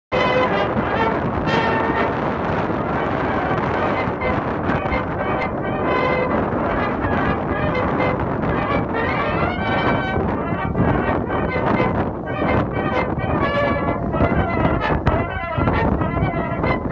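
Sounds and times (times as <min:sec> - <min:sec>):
brass instruments holding notes: 0:00.1 - 0:16.9.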